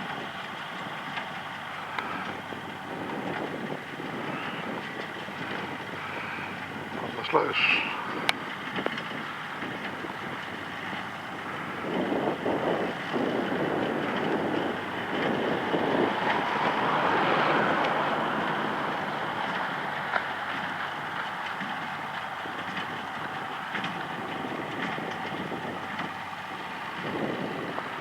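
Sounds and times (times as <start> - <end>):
tractor and baler rumbling: 0.0 - 28.0
wind gusting on microphone: 0.0 - 28.0.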